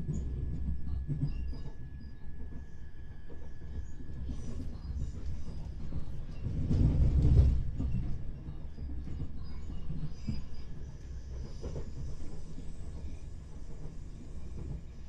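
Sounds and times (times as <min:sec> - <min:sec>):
passing train: 0:00.0 - 0:15.0
train wheels rumbling on track: 0:00.0 - 0:15.0.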